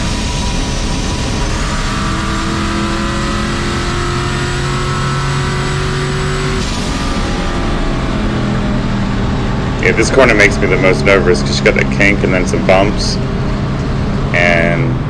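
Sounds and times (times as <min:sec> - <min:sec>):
rush of noise: 0:00.0 - 0:15.0
turbocharged engine accelerating: 0:00.0 - 0:15.0.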